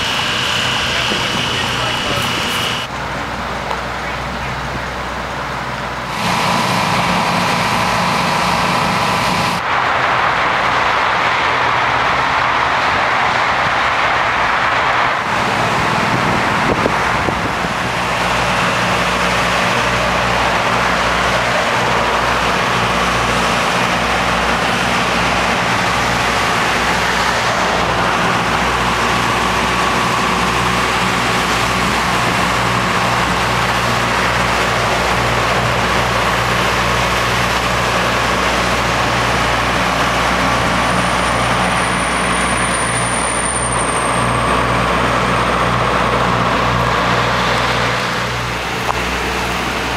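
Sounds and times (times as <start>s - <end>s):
low engine hum: 0.0s - 49.9s
tyres and wind rushing: 0.0s - 49.9s.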